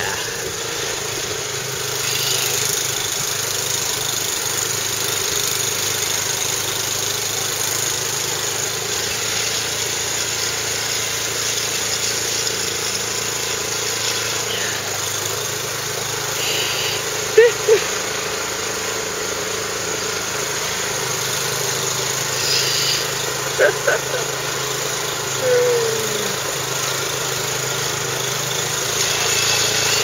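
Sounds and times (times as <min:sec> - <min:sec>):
snowblower engine running: 0:00.0 - 0:30.0.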